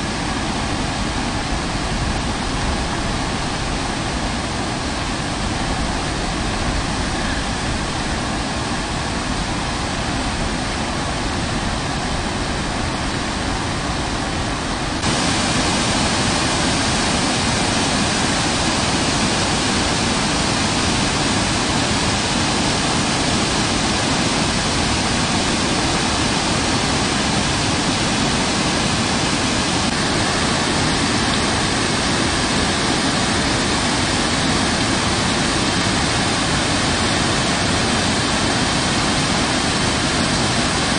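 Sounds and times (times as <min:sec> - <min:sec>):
floodwater rushing over bridge: 0:00.0 - 0:40.9.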